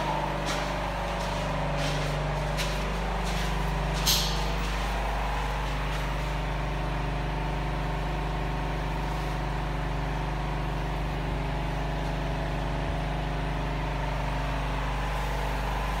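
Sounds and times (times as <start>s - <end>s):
air compressor droning: 0.0s - 16.0s.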